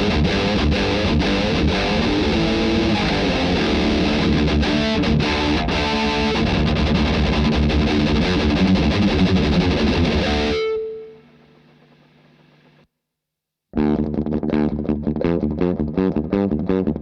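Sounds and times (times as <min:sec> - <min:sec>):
choppy distorted guitar chords: 0:00.0 - 0:12.8, 0:13.8 - 0:17.0
distorted electric guitar riff: 0:00.0 - 0:12.8, 0:13.8 - 0:17.0.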